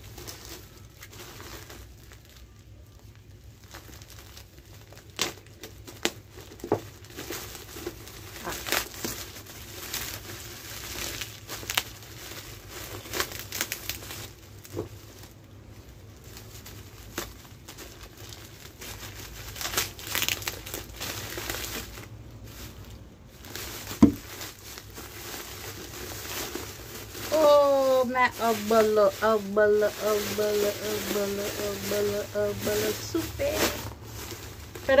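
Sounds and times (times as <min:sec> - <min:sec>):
plastic bags crinkling: 0:00.0 - 0:35.0.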